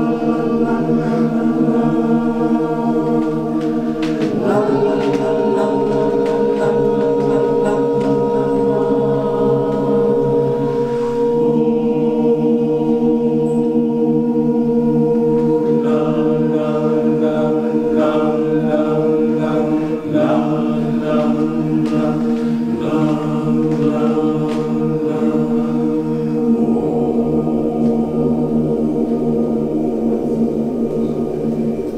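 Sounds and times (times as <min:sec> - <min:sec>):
male choir singing a cappella: 0:00.0 - 0:31.9.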